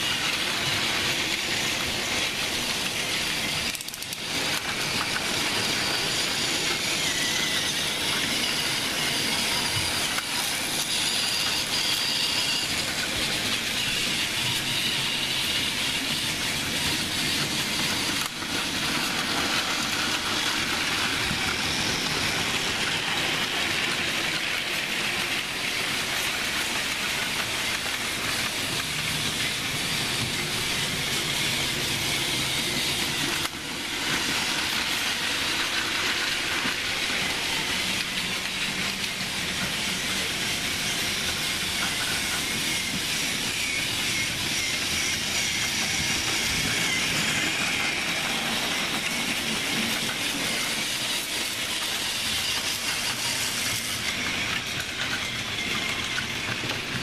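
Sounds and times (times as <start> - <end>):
toy train motors whirring: 0.0 - 57.0.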